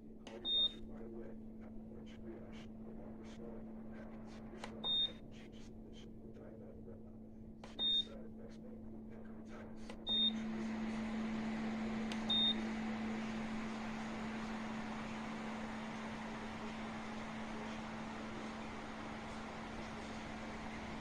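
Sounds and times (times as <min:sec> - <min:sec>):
fan air noise: 0:00.0 - 0:21.0
low hum: 0:00.0 - 0:21.0.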